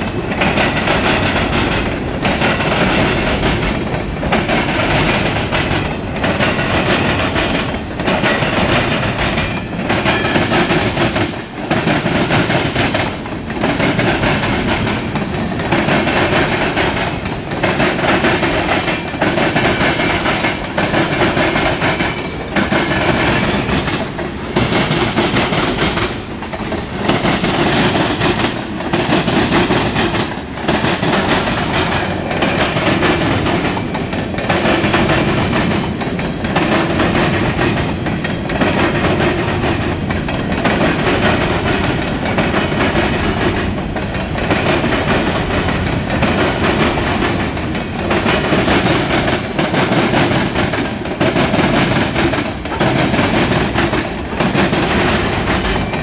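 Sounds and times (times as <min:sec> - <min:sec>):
freight train wheels rumbling and rattling: 0:00.0 - 0:56.0.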